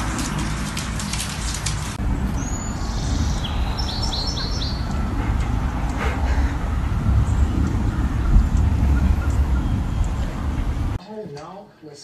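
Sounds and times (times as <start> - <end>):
low background rumble: 0.0 - 11.0
small birds chirping: 0.2 - 10.8.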